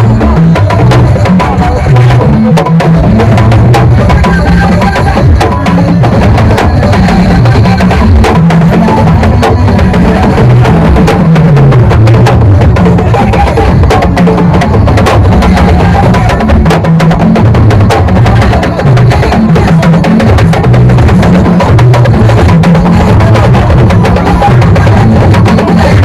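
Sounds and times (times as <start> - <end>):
drum-heavy music with bass: 0.0 - 26.0.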